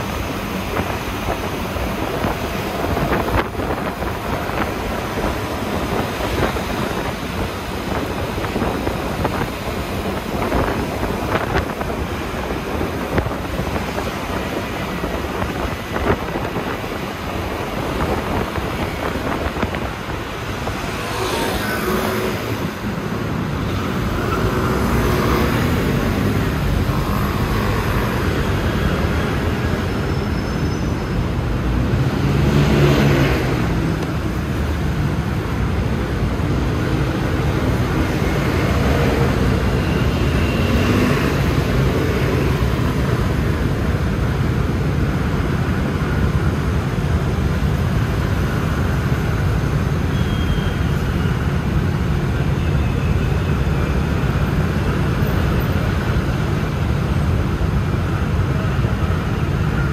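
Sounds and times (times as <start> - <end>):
wind noise: 0.0 - 50.1
road noise: 0.0 - 59.9
surrounding traffic: 0.0 - 59.9.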